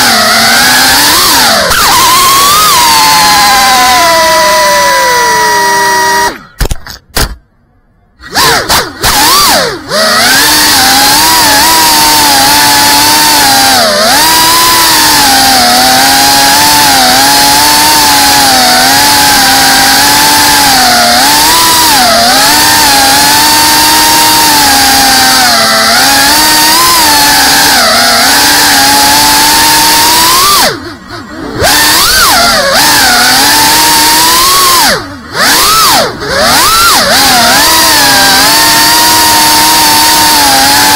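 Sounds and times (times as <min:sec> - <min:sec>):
drone motors whining: 0:00.0 - 0:07.0, 0:08.2 - 0:40.9.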